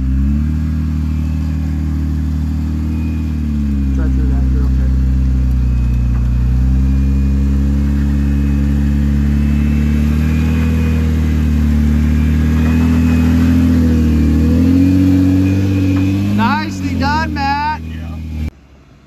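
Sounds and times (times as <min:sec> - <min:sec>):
car engine running at low revs: 0:00.0 - 0:19.0.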